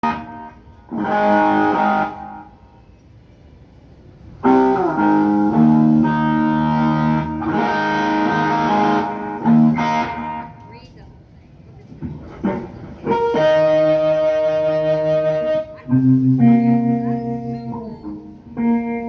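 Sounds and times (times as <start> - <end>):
electric guitar chords ringing: 0.0 - 2.9, 4.4 - 10.7, 12.4 - 19.0.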